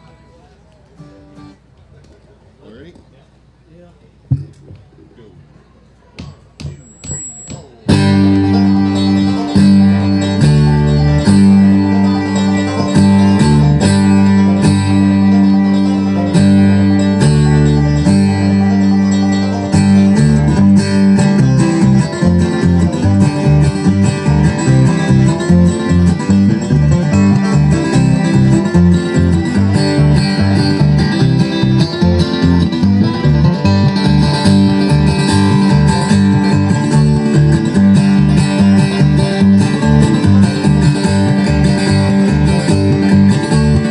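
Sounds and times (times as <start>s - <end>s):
bluegrass band playing: 0.0s - 1.8s, 6.0s - 43.9s
banjo and guitar picking: 7.0s - 43.9s.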